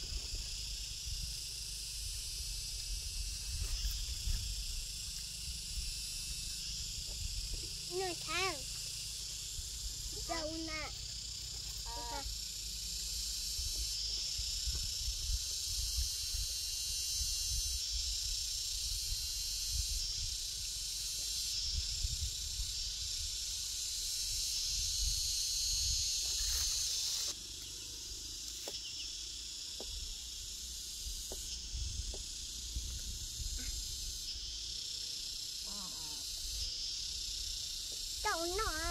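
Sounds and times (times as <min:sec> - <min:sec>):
insects hissing chorus: 0:00.0 - 0:38.9.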